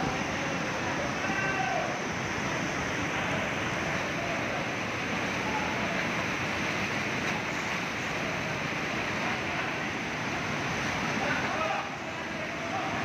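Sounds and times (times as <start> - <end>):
waterfall roaring over rocks: 0.0 - 13.0.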